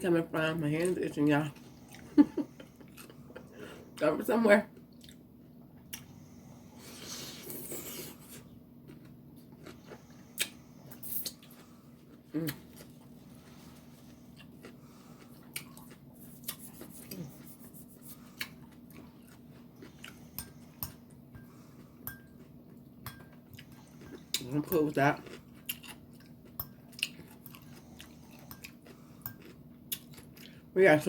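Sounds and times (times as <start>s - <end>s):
person chewing food: 1.6s - 4.0s, 4.8s - 30.7s.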